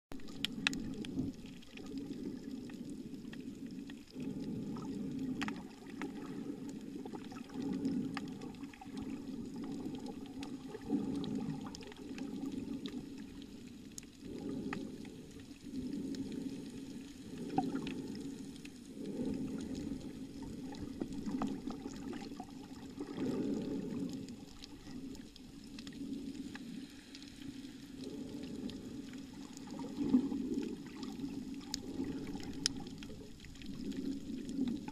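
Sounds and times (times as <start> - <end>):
muffled underwater water noise: 0.1 - 34.9
faint clicks: 0.2 - 34.9.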